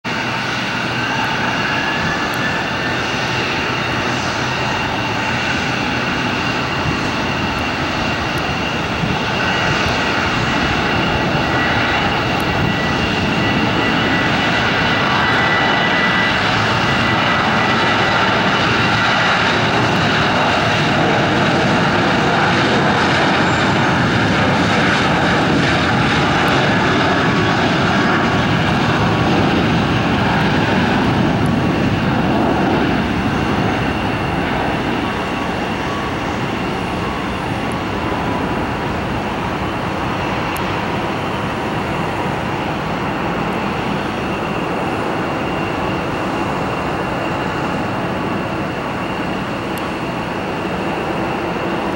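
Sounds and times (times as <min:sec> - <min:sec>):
jet engines at takeoff power: 0:00.0 - 0:51.9.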